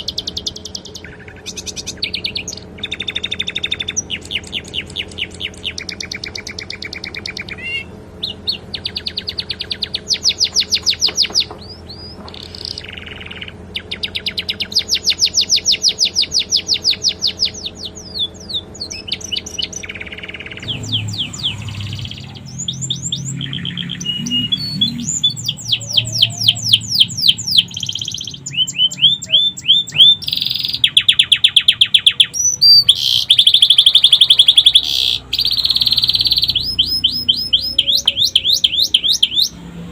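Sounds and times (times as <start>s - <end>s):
canary singing trills: 0.0s - 39.9s
low steady hum: 0.0s - 39.9s.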